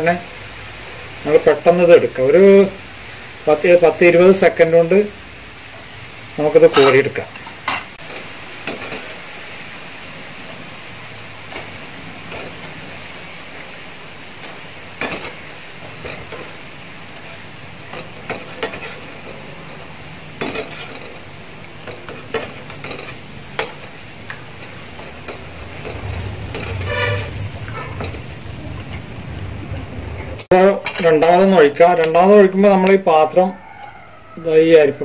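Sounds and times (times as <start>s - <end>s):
batter deep-frying in oil: 0.0s - 35.0s.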